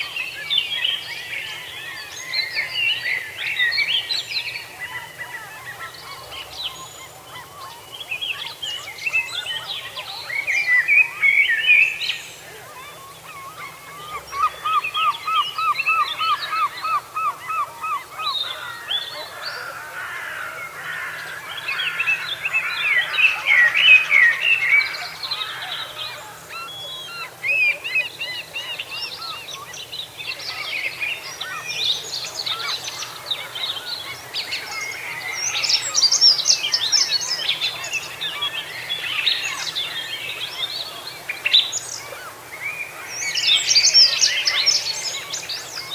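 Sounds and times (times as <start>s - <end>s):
wild birds singing and calling: 0.0s - 45.9s.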